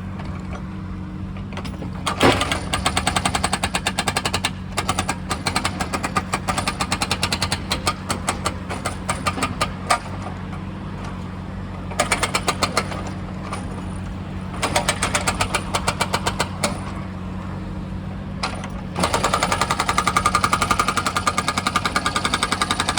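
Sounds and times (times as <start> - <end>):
excavator engine running: 0.0 - 22.9
hydraulic breaker hammering: 1.4 - 10.7, 11.9 - 17.1, 18.4 - 22.9.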